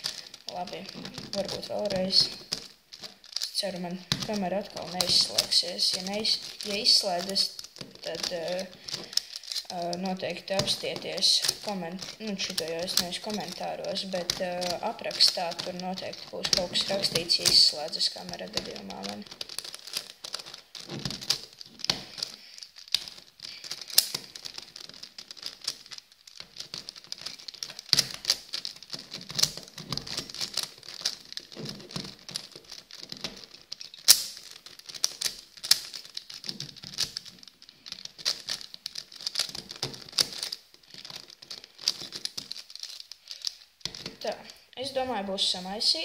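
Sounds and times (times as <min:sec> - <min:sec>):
plastic puzzle clicking: 0:00.0 - 0:46.0.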